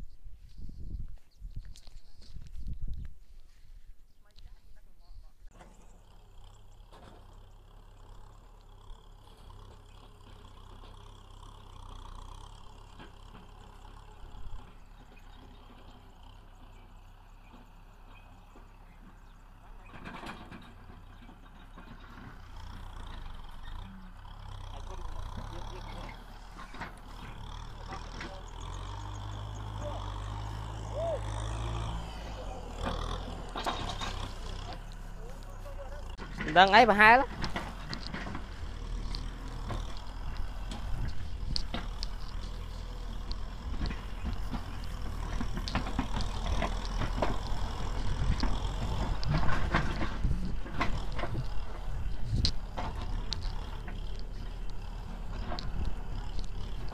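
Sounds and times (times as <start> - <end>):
tractor engine rumble: 0.0 - 56.9
knocks and rattles: 5.5 - 56.9.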